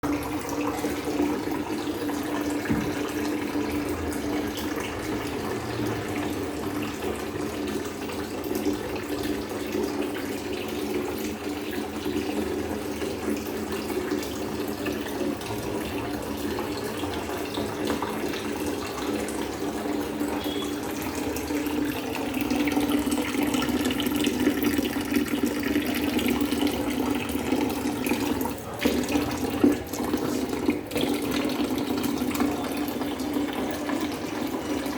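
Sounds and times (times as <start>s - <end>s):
water running from a tap: 0.0s - 34.9s.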